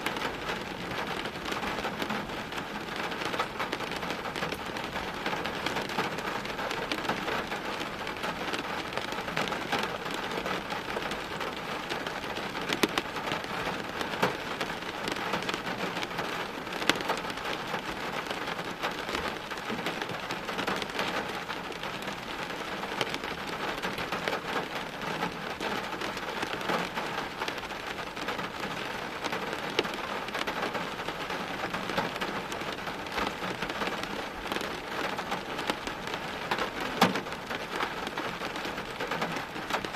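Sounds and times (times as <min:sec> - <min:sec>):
rain pattering on hard surfaces: 0:00.0 - 0:39.9.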